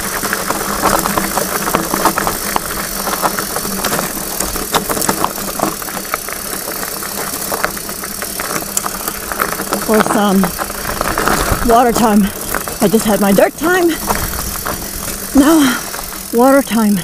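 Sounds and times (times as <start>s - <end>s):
bike clicks and knocks: 0.0s - 17.0s
tyres crunching on gravel: 0.0s - 17.0s.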